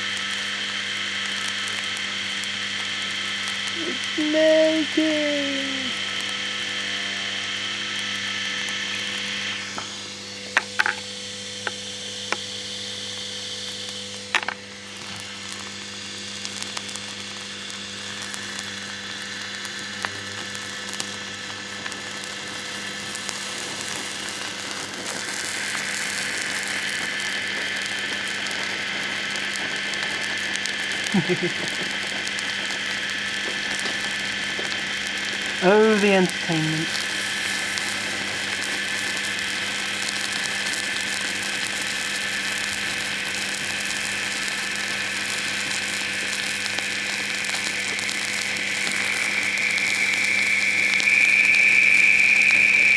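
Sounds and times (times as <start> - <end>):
constant hum: 0.0 - 52.9.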